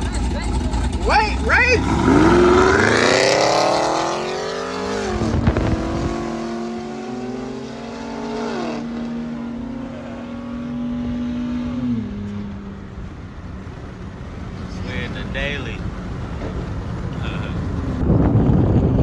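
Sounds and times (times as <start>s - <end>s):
cars accelerating hard: 0.0s - 19.0s.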